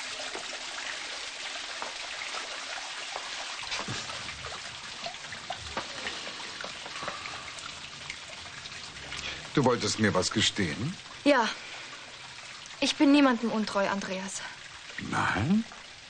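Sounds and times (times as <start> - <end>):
running water trickling: 0.0 - 16.0.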